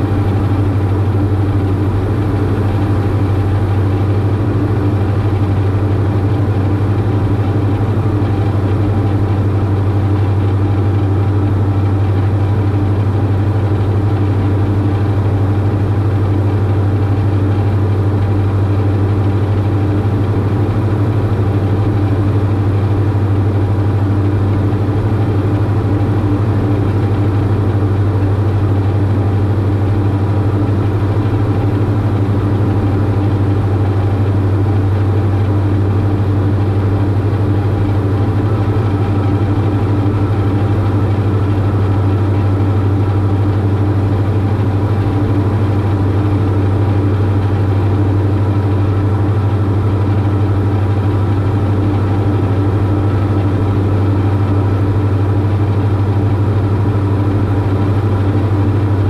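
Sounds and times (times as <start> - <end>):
aircraft cabin engine drone: 0.0 - 59.0.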